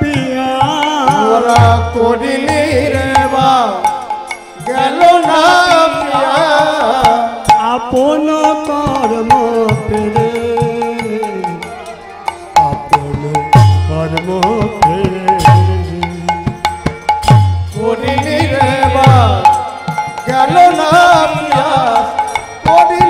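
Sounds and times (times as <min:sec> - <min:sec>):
hand drum beating: 0:00.0 - 0:23.0.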